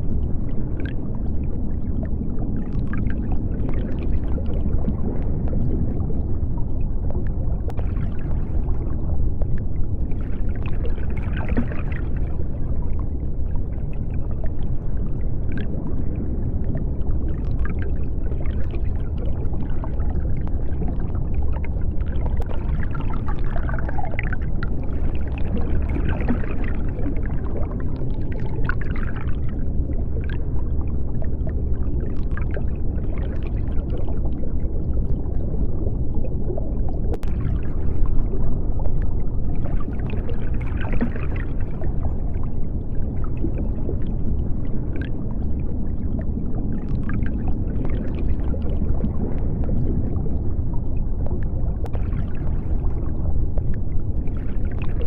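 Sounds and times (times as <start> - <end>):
deep underwater rumble: 0.0 - 55.0
water bubbling and gurgling: 0.0 - 55.0.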